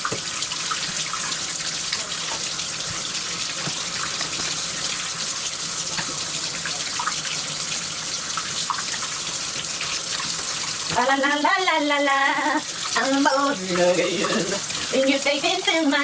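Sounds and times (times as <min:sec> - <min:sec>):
water running in bathtub: 0:00.0 - 0:16.0.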